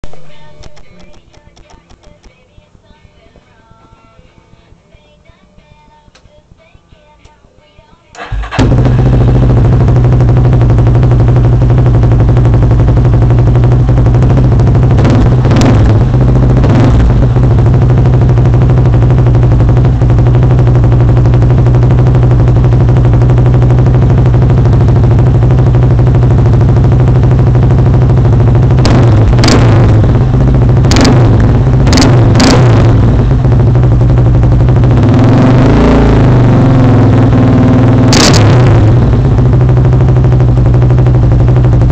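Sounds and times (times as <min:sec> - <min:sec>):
engine idling with throttle blips: 0:08.2 - 0:41.9.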